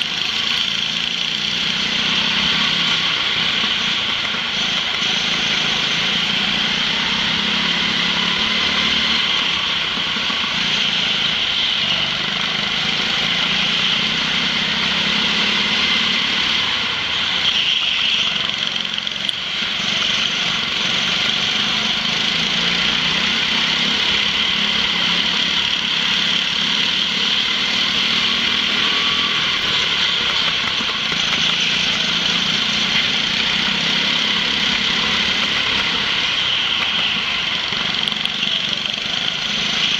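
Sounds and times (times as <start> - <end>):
go-kart engine droning: 0.0 - 39.9.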